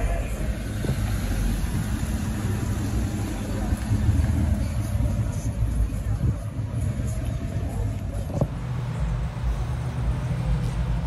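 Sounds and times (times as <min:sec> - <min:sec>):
car engine exhaust rumble: 0:00.0 - 0:11.0.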